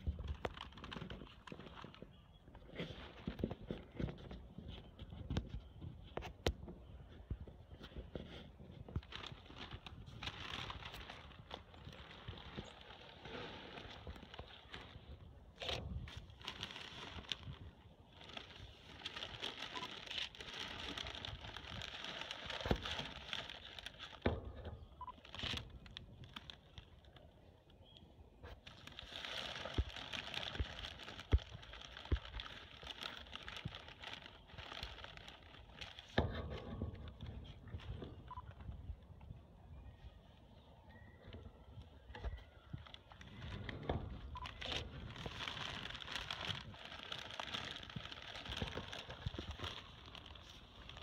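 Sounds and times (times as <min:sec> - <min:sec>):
paper bag crinkling and rustling: 0:00.0 - 0:39.0, 0:42.0 - 0:51.0.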